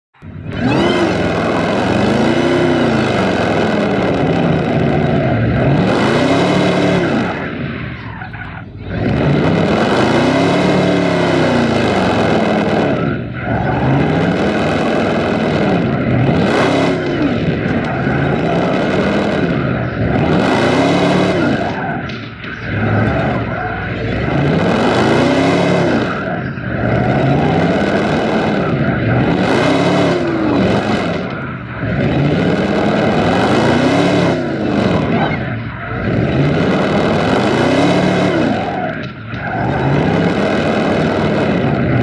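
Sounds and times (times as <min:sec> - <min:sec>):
car engine revving: 0:00.0 - 0:42.0
tyres squealing and skidding: 0:00.2 - 0:42.0.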